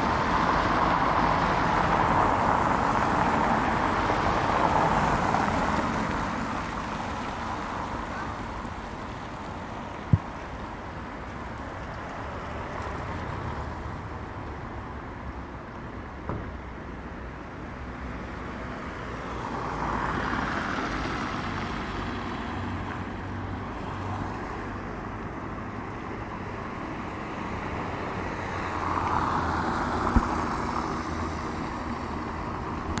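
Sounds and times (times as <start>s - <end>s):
vehicles passing on wet road: 0.0s - 33.0s.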